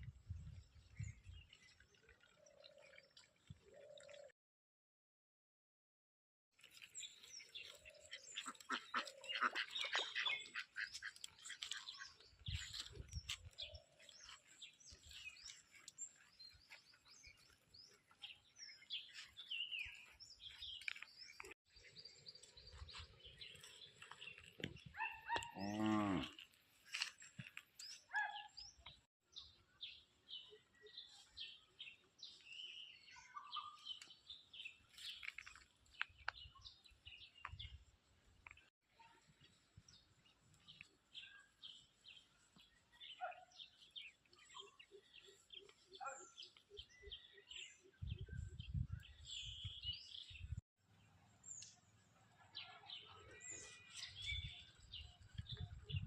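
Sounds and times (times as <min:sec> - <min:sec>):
birds chirping: 0:06.6 - 0:38.7, 0:39.3 - 0:50.6, 0:51.4 - 0:56.0.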